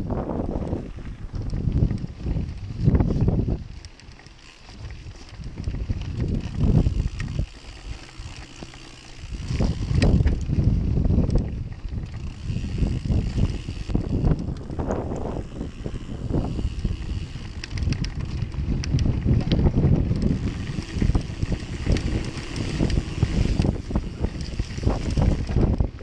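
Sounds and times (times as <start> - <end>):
bike rattling: 0.0 - 26.0
bike tyres crunching over gravel: 0.0 - 26.0
wind buffeting microphone: 0.0 - 26.0.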